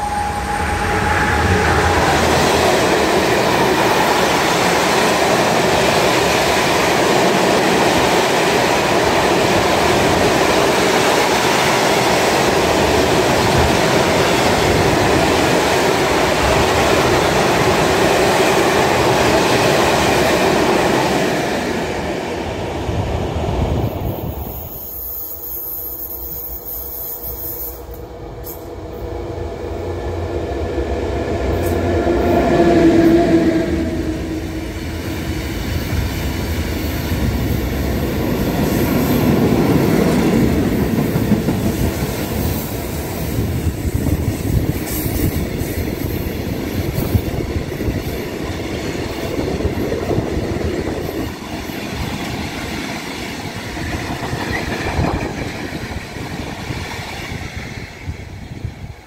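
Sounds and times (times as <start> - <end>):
electric locomotive humming: 0.0 - 59.0.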